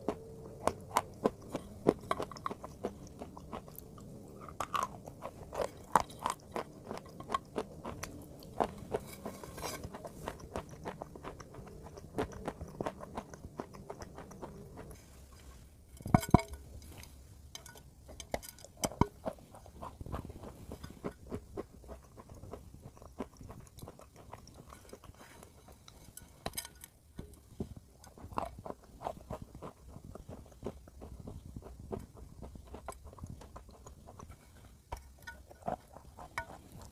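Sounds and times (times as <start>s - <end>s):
person chewing crunchy food: 0.0s - 36.9s.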